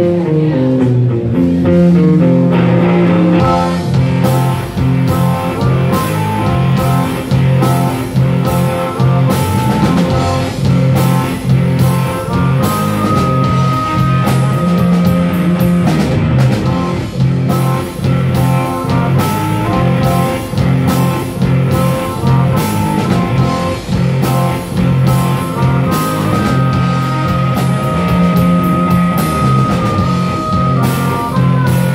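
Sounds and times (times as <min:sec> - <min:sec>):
blues-rock band playing: 0:00.0 - 0:31.9
amplified harmonica riffing: 0:02.0 - 0:31.9.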